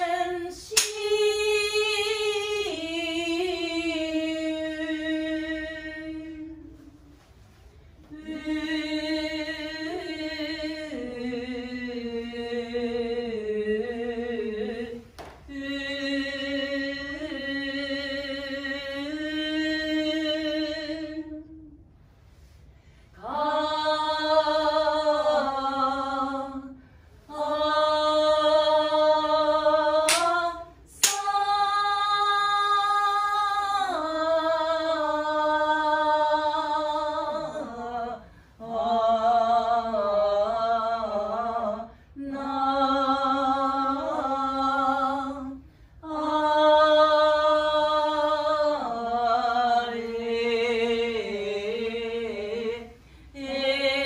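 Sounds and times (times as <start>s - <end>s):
woman singing unaccompanied: 0.0s - 7.0s, 8.1s - 21.6s, 23.2s - 54.0s.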